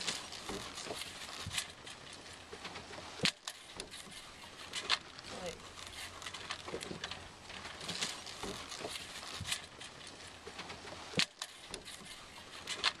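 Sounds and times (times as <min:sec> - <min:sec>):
waves lapping against boat hull: 0:00.0 - 0:13.0.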